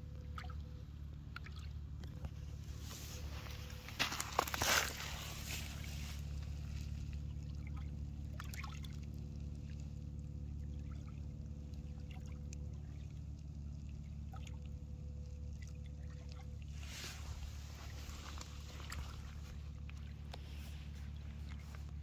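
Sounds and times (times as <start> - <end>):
steady low hum: 0.0 - 22.0
ripples lapping at shore: 0.1 - 22.0.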